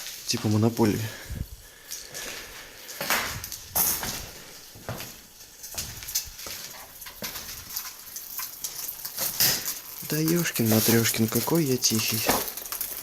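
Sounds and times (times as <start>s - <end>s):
footsteps crunching over debris: 0.0s - 13.0s.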